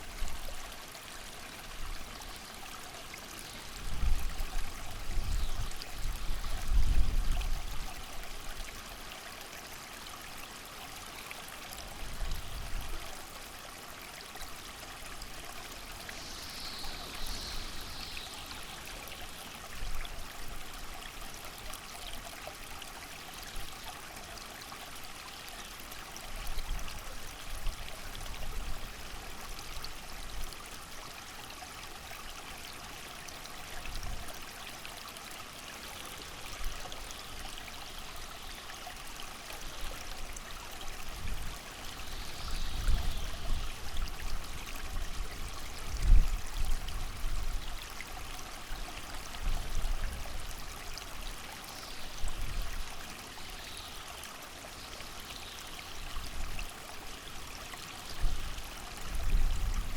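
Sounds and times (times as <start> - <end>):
creek water running: 0.0 - 59.9.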